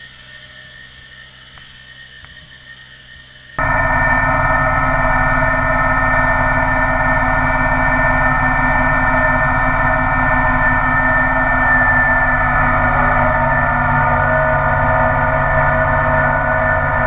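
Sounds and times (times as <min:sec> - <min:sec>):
diesel tractor engine droning: 0:00.0 - 0:17.0.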